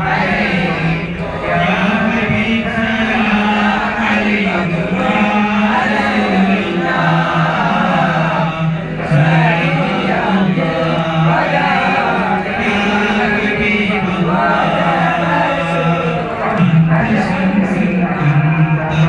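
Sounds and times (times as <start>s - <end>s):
boys chanting a devotional song: 0.0s - 19.0s.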